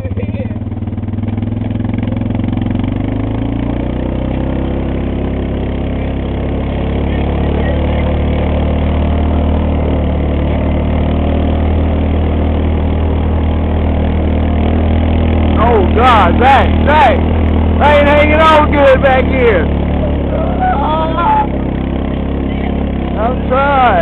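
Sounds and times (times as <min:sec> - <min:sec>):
four-wheeler engine running: 0:00.0 - 0:24.0.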